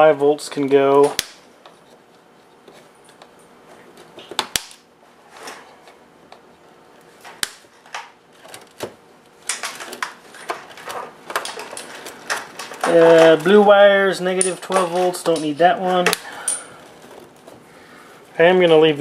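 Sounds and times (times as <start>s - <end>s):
wire rustling: 0.6s - 18.4s.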